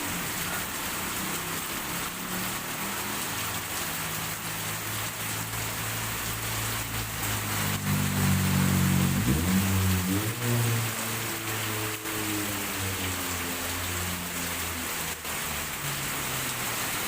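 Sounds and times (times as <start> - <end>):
vehicle engine humming: 0.0 - 15.1
heavy rain on road: 0.0 - 17.0.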